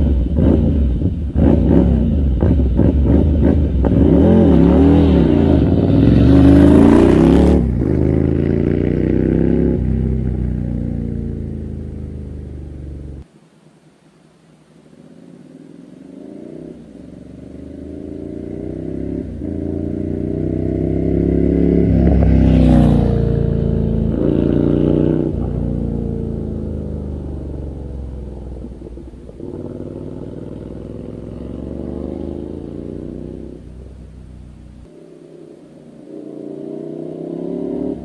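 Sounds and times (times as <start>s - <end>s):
motorcycle engine accelerating: 0.0s - 13.2s, 16.1s - 38.0s.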